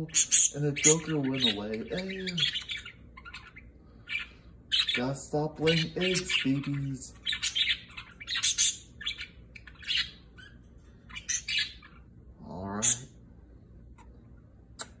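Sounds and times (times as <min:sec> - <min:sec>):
budgerigars chirping and squawking: 0:00.0 - 0:13.2.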